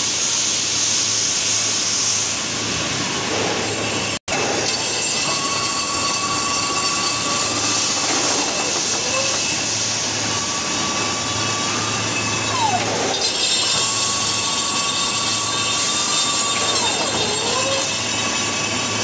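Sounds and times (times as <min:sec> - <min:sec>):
machine whine: 0:01.8 - 0:19.0
rolling mill mechanical din: 0:02.6 - 0:19.0.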